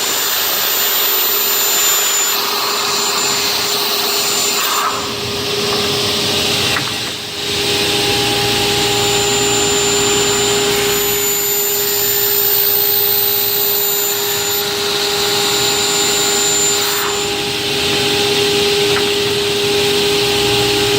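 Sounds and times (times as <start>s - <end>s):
cutting saw motor and blade whine: 0.0s - 20.9s.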